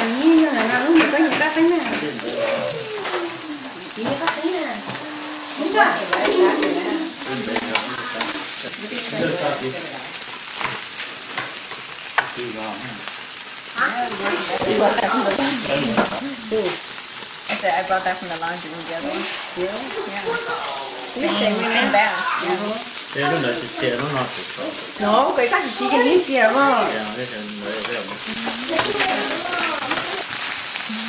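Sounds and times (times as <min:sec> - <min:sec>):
indistinct voices: 0:00.0 - 0:10.1, 0:13.8 - 0:26.8, 0:28.1 - 0:31.0
meat sizzling on a grill: 0:00.0 - 0:31.0.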